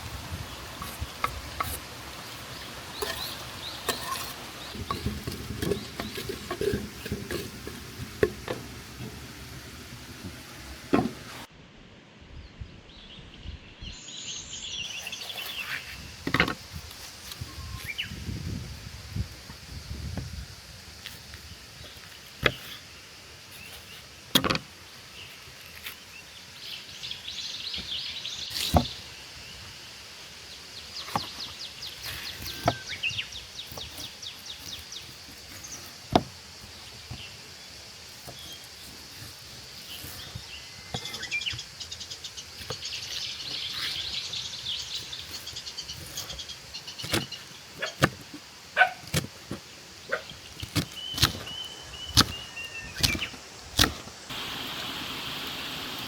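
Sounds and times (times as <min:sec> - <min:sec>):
songbirds trilling: 0:00.4 - 0:11.5, 0:21.8 - 0:56.0.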